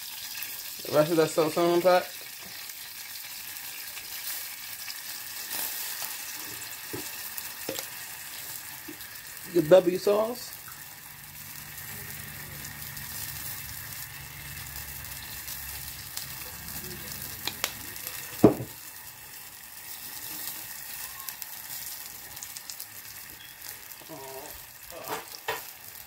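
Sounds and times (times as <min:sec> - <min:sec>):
butter sauce sizzling: 0:00.0 - 0:26.0.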